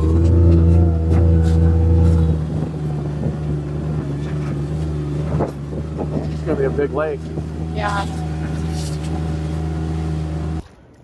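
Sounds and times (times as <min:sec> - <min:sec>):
utility vehicle engine running: 0:00.0 - 0:11.0.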